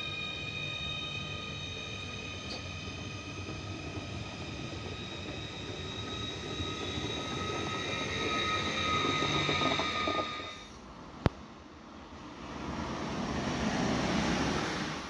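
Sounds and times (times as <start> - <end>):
train wheels rumbling on rails: 0.0 - 11.2, 12.1 - 15.0.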